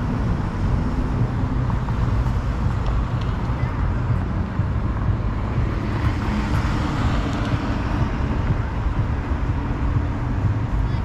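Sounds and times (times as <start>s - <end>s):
passing vehicle engine hum: 0.0s - 11.0s
street traffic noise: 0.0s - 11.0s
wind rumble on microphone: 0.0s - 11.0s.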